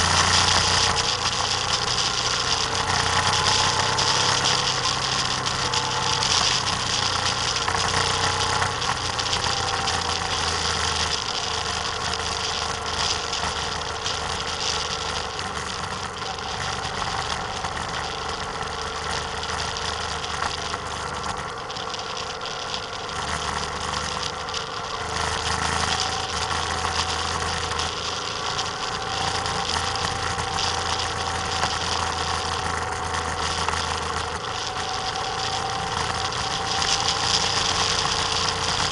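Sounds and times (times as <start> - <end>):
vehicle engine running: 0.0 - 38.9
wind and road noise: 0.0 - 38.9.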